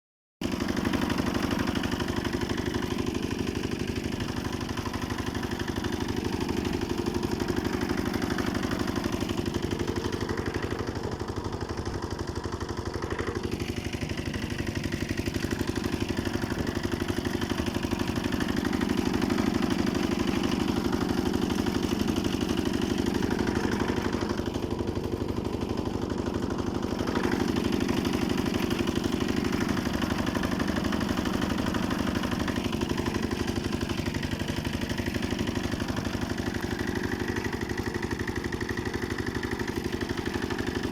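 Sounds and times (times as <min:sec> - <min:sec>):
tractor engine running: 0:00.4 - 0:40.9.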